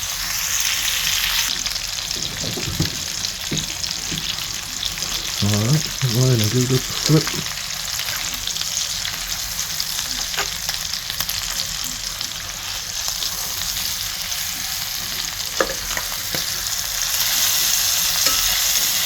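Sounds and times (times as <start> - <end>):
chicken frying in grease: 0.0 - 19.0.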